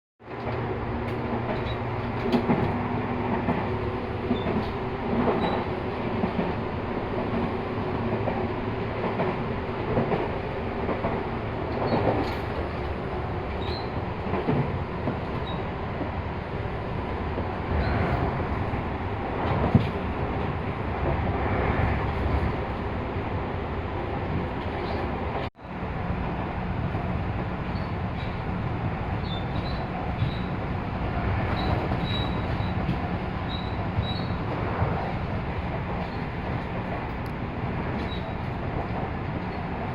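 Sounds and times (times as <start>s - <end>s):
train wheels rumbling on rail: 0.2s - 39.9s.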